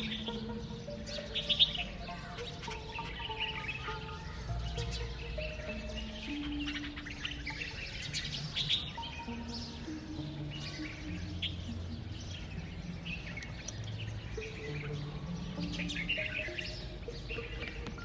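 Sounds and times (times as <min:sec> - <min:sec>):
birds chirping: 0:00.0 - 0:18.0
soft background music: 0:00.0 - 0:18.0.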